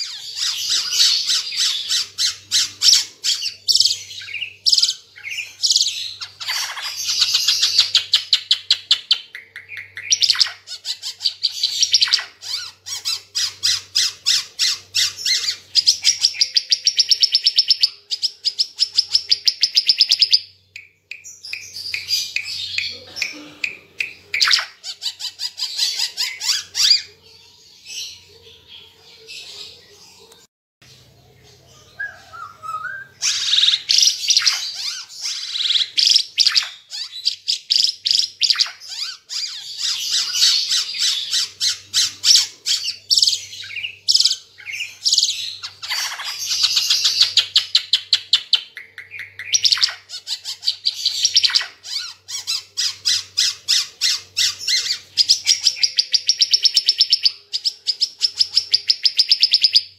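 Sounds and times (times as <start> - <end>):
finches chirping and trilling: 0.0 - 20.4, 31.3 - 48.3, 49.2 - 59.9.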